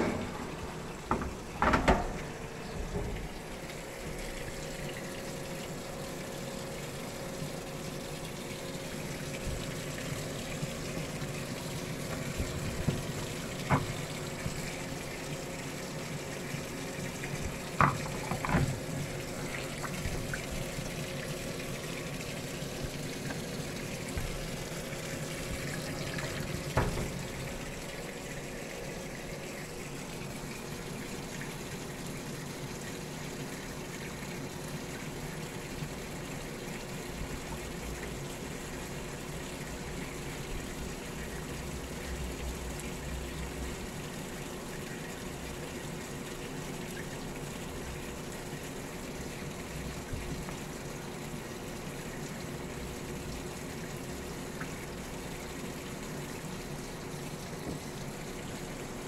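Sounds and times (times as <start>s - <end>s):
water pouring into washing machine: 0.0s - 59.0s.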